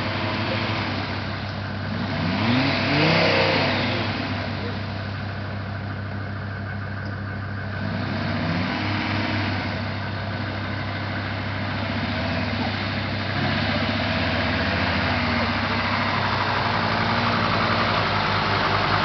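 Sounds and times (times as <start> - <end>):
vehicle engine pulling at low revs: 0.0 - 19.0.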